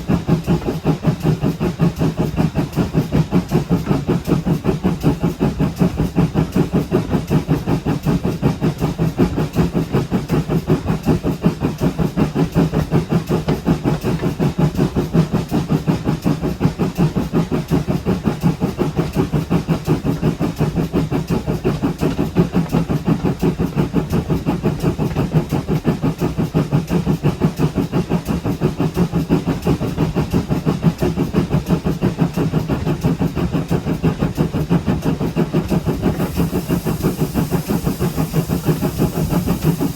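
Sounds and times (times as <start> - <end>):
steam locomotive chuffing: 0.0 - 39.9.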